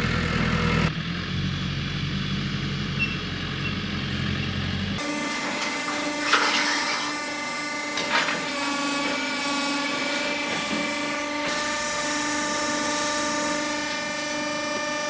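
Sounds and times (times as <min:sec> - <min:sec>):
crane electric drive whining: 0:01.5 - 0:15.0.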